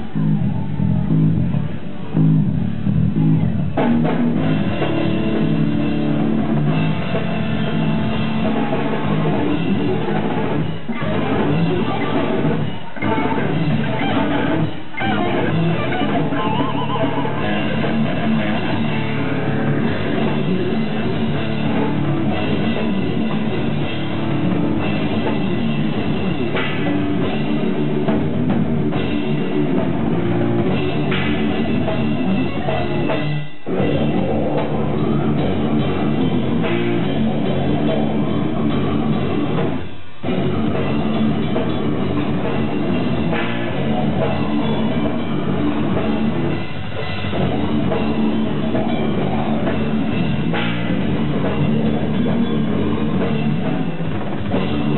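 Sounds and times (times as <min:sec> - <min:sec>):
distorted electric guitars: 0:00.0 - 0:54.9
drum kit: 0:00.0 - 0:54.9.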